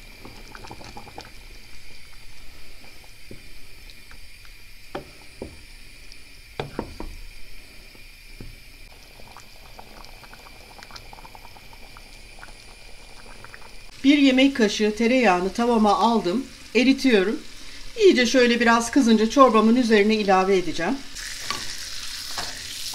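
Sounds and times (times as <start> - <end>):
thick stew bubbling in pot: 0.0 - 20.4.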